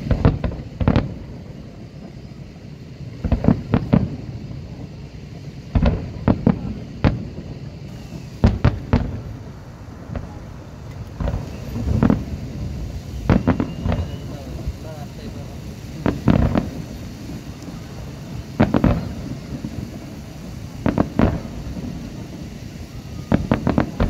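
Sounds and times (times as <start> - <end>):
firework shells bursting: 0.0 - 24.0.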